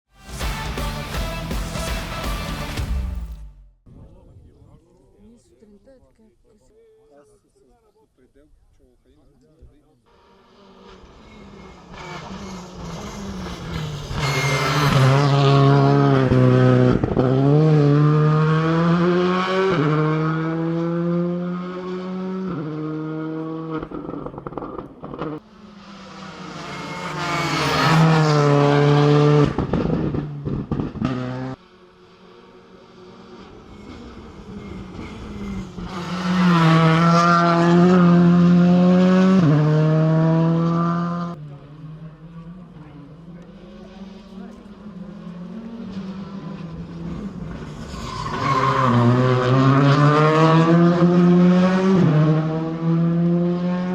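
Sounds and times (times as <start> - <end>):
rally car engines revving: 10.1 - 53.9.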